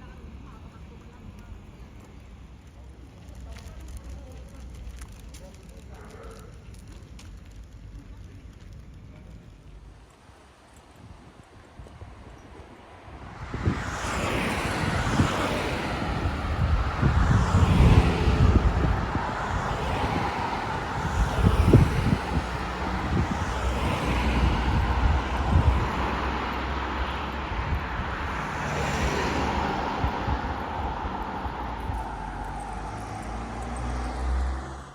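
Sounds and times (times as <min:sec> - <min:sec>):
road noise: 0:00.0 - 0:34.9
vehicle engine rumble: 0:00.0 - 0:34.9.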